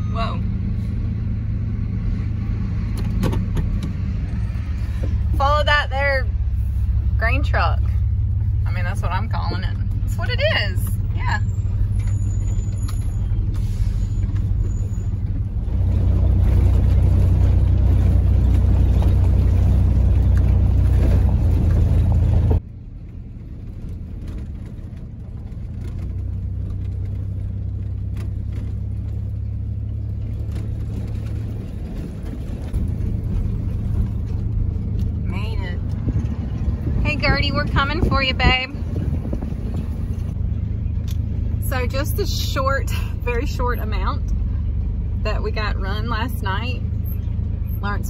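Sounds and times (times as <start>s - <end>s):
vehicle engine and tyre rumble: 0.0s - 48.0s.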